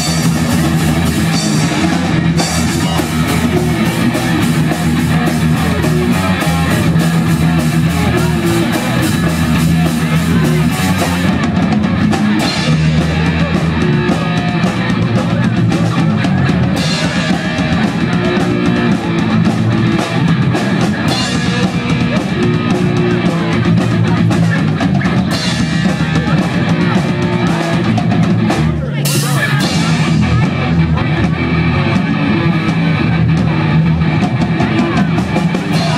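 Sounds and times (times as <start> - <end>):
drum kit: 0.0 - 35.9
electric guitars: 0.0 - 35.9.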